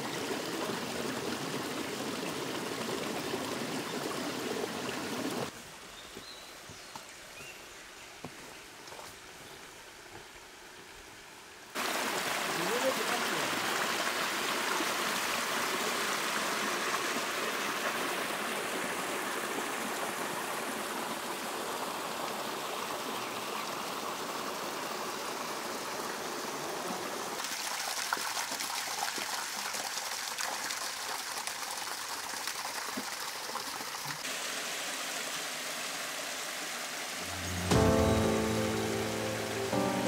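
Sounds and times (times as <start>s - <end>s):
stream water rushing: 0.0s - 5.9s, 11.7s - 40.0s.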